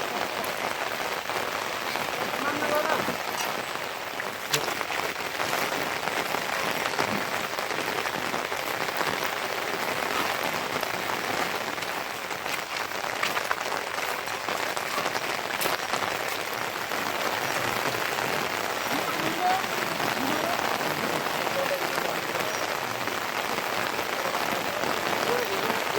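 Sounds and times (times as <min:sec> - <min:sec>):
raindrops ticking: 0:00.0 - 0:25.9
steady rain falling: 0:00.0 - 0:25.9.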